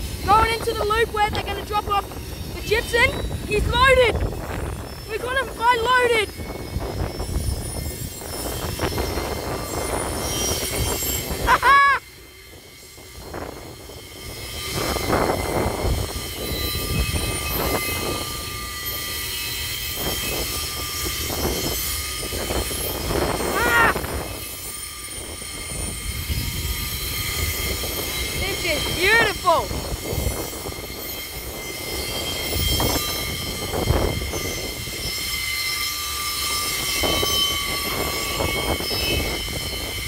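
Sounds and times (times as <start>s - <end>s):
train wheels rumbling on track: 0.0s - 40.0s
wheel squeals: 2.2s - 40.0s.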